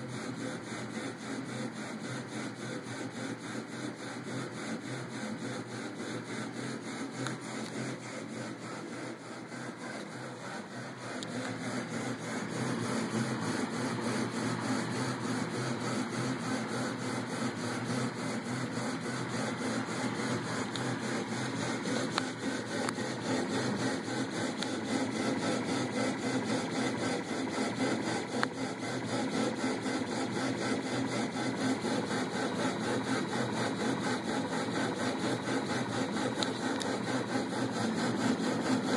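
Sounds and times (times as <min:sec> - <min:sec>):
stepper motors buzzing and whining: 0:03.6 - 0:38.9.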